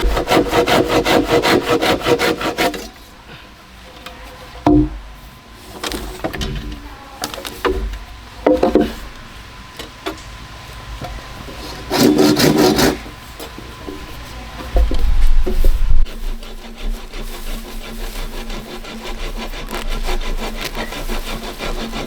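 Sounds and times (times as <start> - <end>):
scraping and knocking on bamboo: 0.0 - 3.1, 3.9 - 9.2, 11.0 - 22.0.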